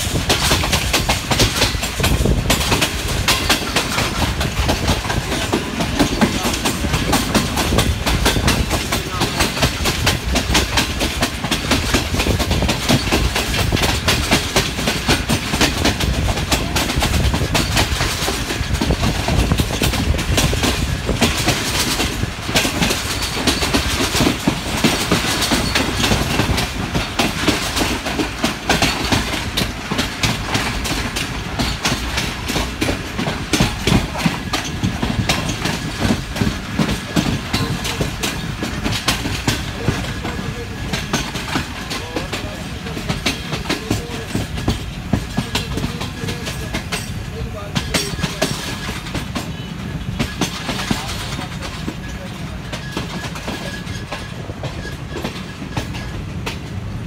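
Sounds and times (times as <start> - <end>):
clickety-clack over rail joints: 0.0 - 57.0
rumble of train wheels on rail: 0.0 - 57.0.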